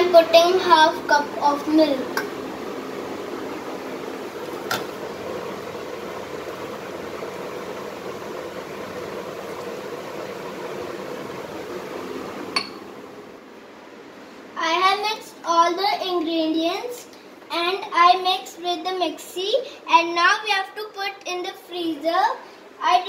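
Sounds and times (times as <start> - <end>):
fan hum: 0.0 - 23.0.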